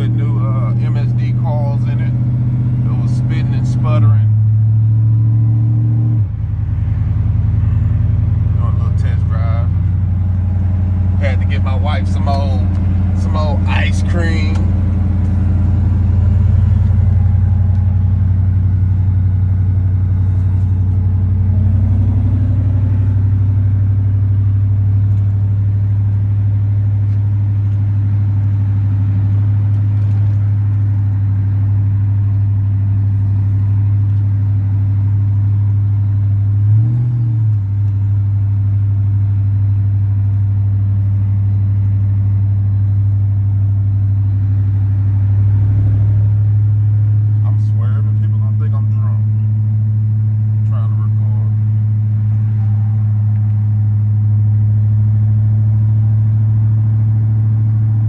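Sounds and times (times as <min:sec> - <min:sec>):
pickup truck engine droning: 0:00.0 - 0:58.0.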